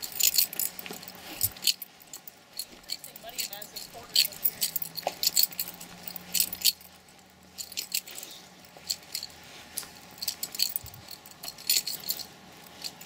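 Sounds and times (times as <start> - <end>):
small metal items jingling: 0.0 - 13.0.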